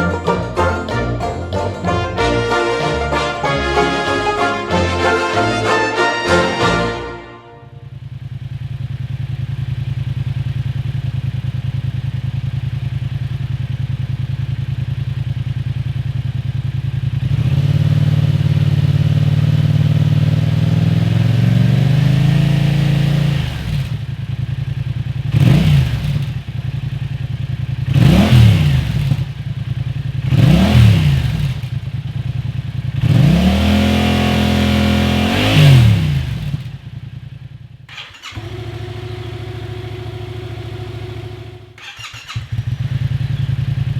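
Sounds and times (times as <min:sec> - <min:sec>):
motorcycle engine idling and revving: 0:07.7 - 0:43.9.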